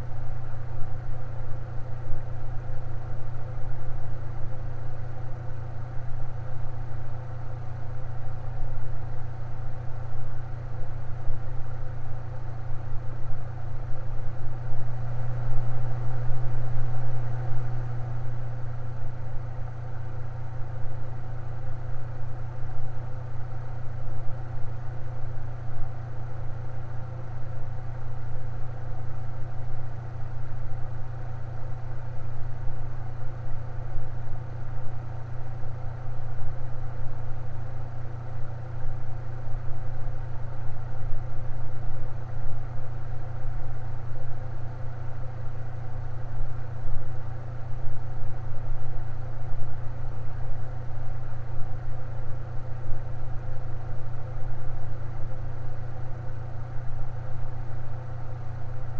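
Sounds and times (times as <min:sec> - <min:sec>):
electric fan running: 0:00.0 - 0:58.9.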